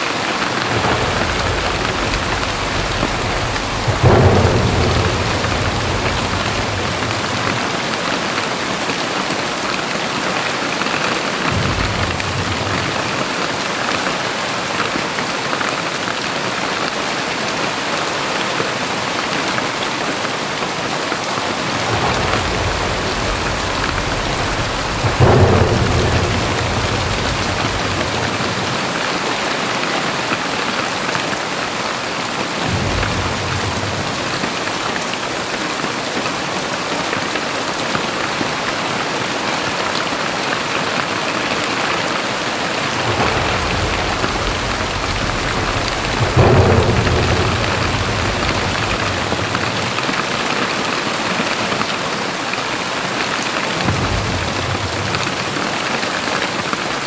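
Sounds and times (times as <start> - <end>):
thunder rumbling: 0.0 - 15.4, 18.5 - 51.8, 53.4 - 57.0
heavy rain pouring: 0.0 - 57.0.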